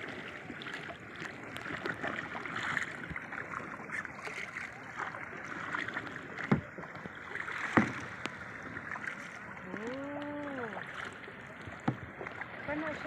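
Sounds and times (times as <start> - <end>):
paddle splashing in water: 0.0 - 13.0
water trickling: 0.0 - 13.0.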